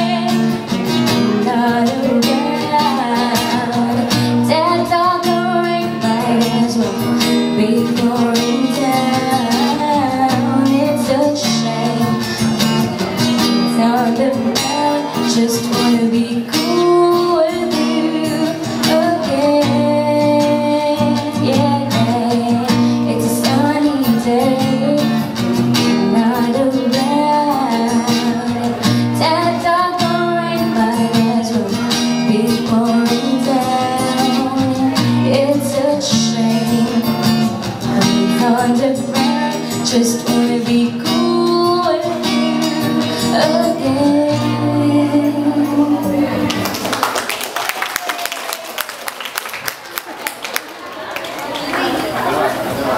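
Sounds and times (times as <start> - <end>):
woman singing into a microphone: 0.0 - 46.7
acoustic guitar: 0.0 - 47.3.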